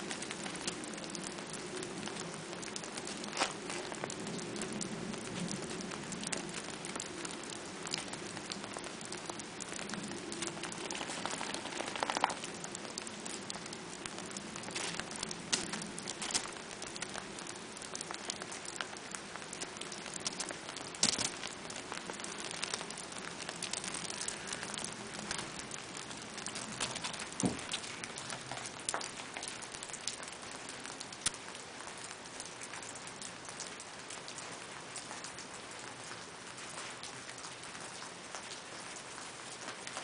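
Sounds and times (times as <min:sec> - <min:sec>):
sleet and rain pattering: 0:00.0 - 0:40.0.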